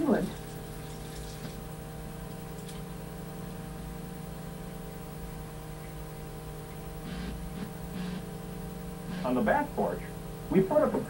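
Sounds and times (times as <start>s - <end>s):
electrical hum: 0.0s - 11.0s
tape hiss: 0.0s - 11.0s.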